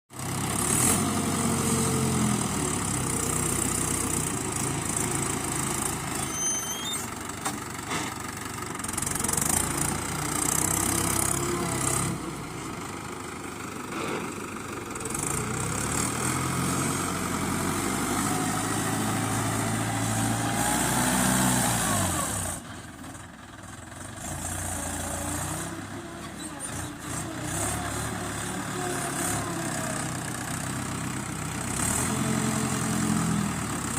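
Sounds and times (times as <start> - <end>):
tractor diesel engines revving: 0.2 - 33.9.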